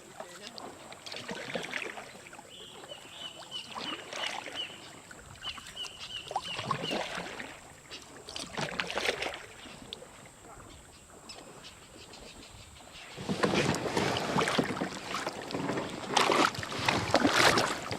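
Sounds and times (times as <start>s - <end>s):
paddles splashing in water: 0.0s - 17.9s.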